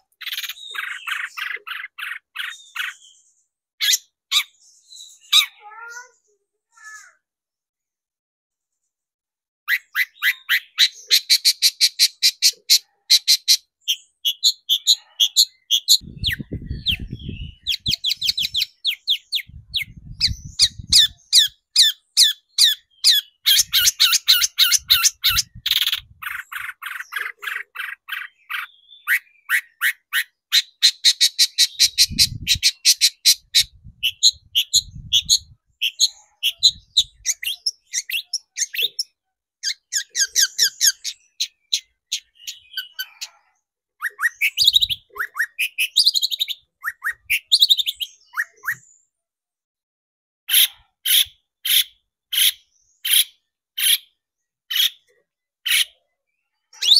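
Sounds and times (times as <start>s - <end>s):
bird chattering song: 0.0s - 7.2s, 9.7s - 49.1s, 50.5s - 56.9s.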